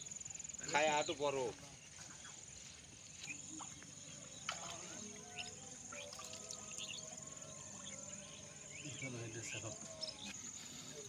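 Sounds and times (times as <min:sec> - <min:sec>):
insects trilling: 0:00.0 - 0:11.0
bird chirps: 0:01.8 - 0:11.0.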